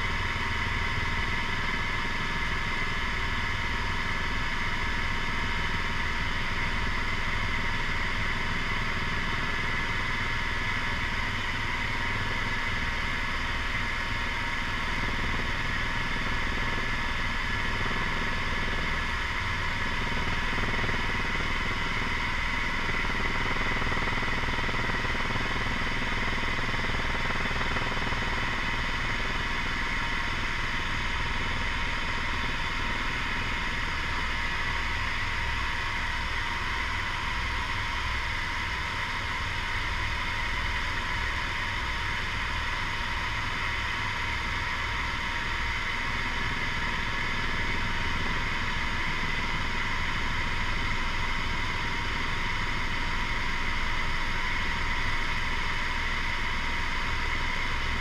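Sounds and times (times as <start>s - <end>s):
helicopter high whine: 0.0s - 58.0s.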